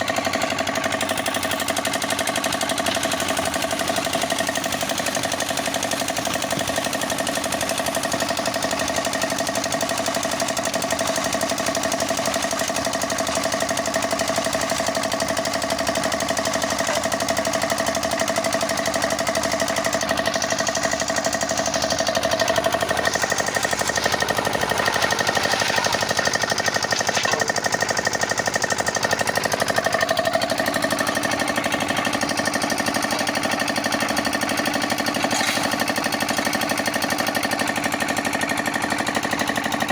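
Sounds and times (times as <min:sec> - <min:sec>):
concrete mixer engine clattering: 0:00.0 - 0:39.9.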